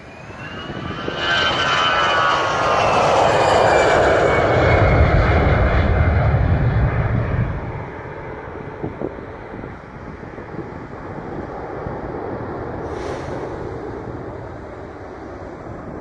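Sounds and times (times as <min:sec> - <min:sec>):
jet engine whine: 0:00.0 - 0:16.0
jet roar: 0:00.0 - 0:16.0.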